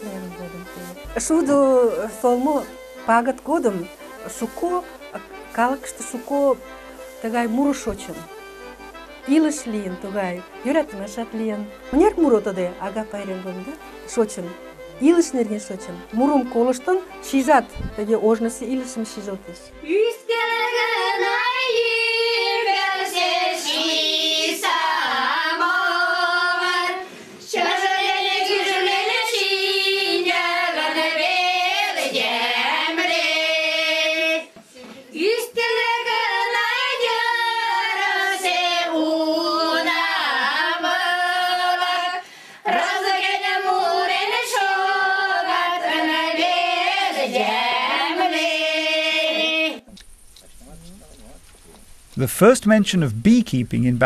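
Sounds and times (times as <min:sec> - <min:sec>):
women singing together: 0:00.0 - 0:06.6, 0:09.2 - 0:49.9.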